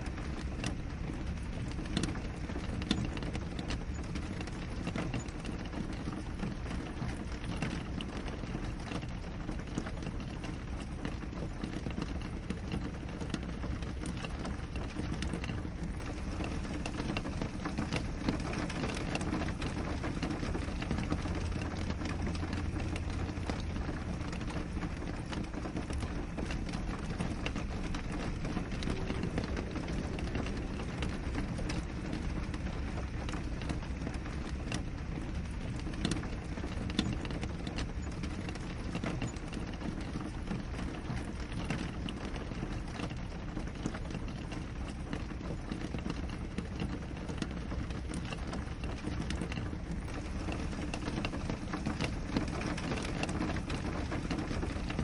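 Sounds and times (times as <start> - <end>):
rain on a window pane: 0.0 - 55.0.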